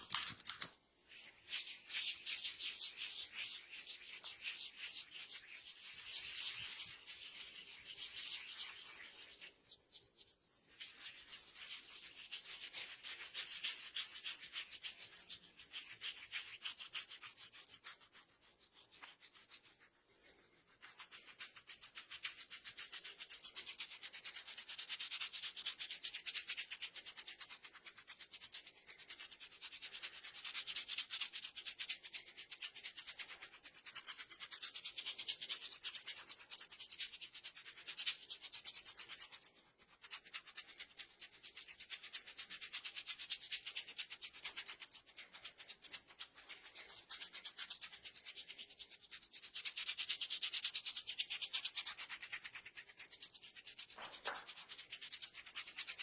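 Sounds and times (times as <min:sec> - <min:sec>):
hands rubbing hair on scalp: 0:00.0 - 0:56.0.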